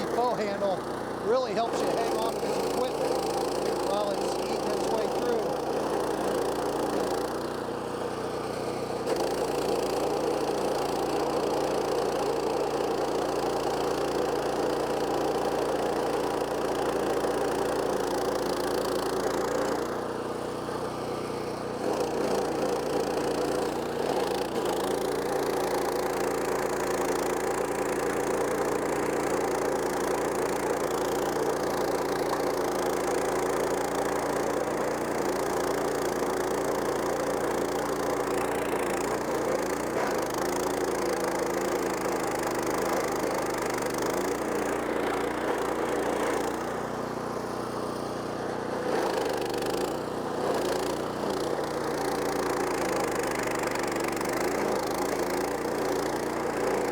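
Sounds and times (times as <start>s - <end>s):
cutting wheel grinding stump: 0.0s - 56.9s
engine running at speed: 0.0s - 56.9s.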